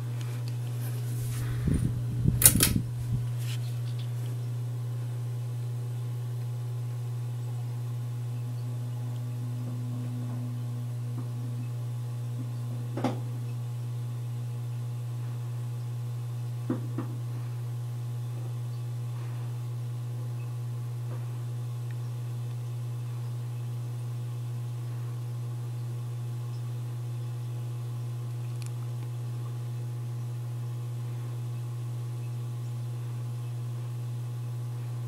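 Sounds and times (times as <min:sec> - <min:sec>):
ceiling fan motor hum: 0:00.0 - 0:35.0.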